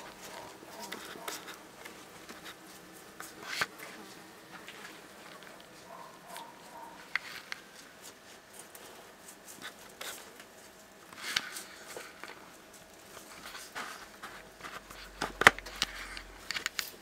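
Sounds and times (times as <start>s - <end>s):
lizards scratching and rustling: 0.0s - 17.0s.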